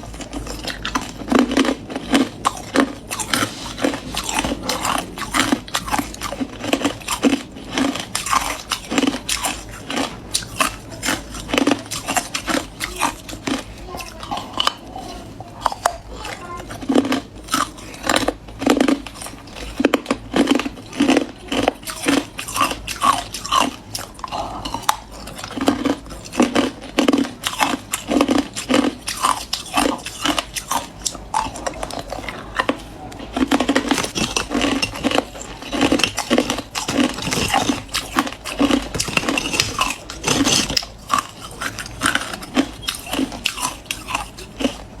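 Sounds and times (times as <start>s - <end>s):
crunching ice: 0.0s - 44.8s.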